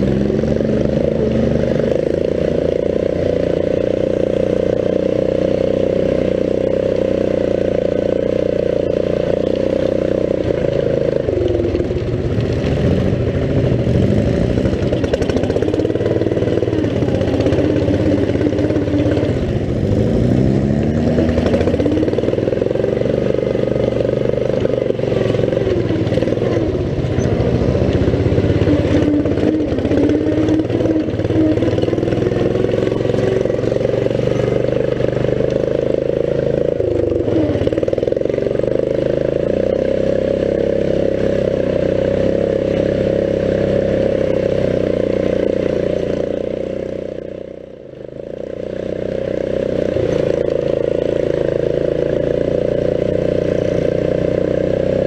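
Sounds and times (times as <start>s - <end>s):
riding lawn mower engine: 0.0s - 55.0s.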